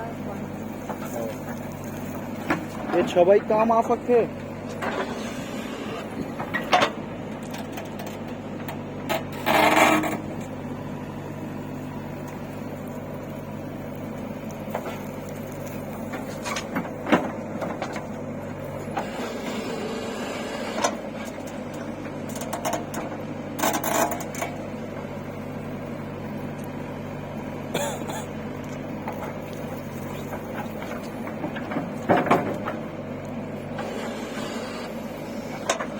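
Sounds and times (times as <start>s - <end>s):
heavy machine engine running: 0.0s - 35.9s.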